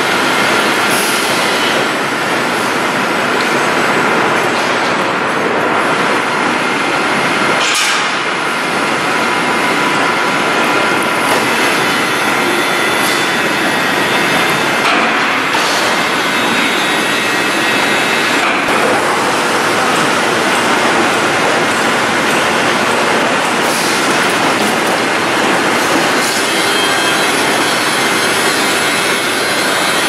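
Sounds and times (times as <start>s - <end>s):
production line din: 0.0s - 30.0s.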